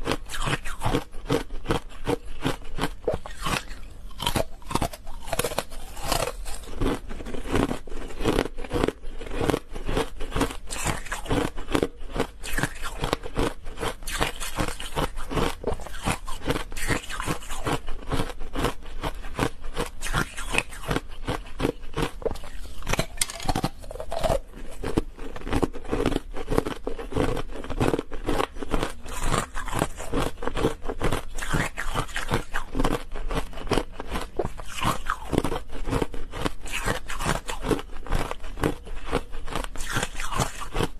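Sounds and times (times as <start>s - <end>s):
ice crunching in mouth: 0.0s - 40.9s.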